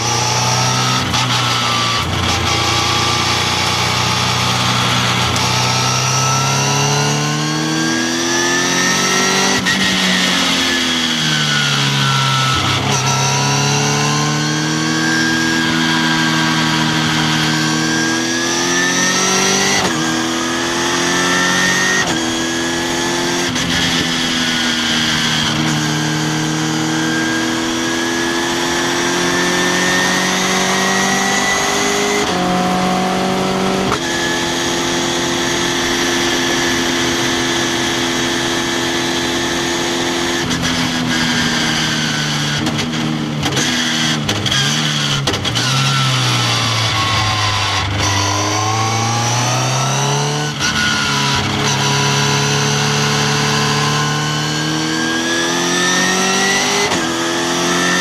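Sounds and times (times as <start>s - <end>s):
racing car engine revving through gears: 0.0s - 58.0s.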